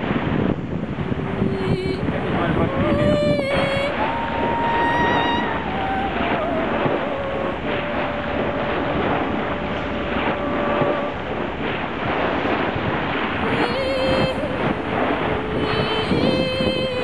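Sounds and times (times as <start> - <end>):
boat running noise: 0.0 - 17.0
rushing water: 0.0 - 17.0
thin steady whine: 0.0 - 17.0
wind buffeting microphone: 0.0 - 17.0.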